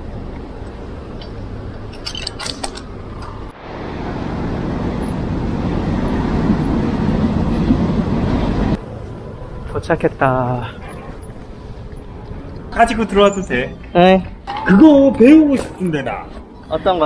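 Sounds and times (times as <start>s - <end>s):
low hum: 0.0s - 15.1s
wind and road noise: 0.0s - 17.0s.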